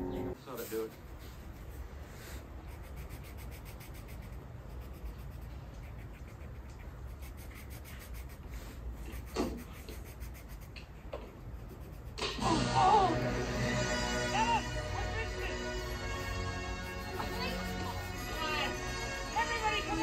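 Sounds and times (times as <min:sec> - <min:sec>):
pencil scratching on paper: 0:00.5 - 0:12.4, 0:15.2 - 0:20.0.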